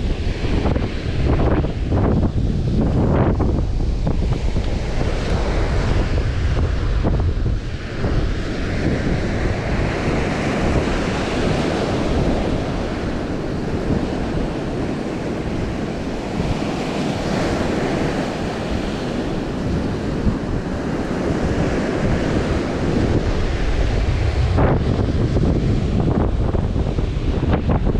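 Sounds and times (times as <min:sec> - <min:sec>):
sea surf: 0:00.0 - 0:27.9
wind buffeting microphone: 0:00.0 - 0:27.9.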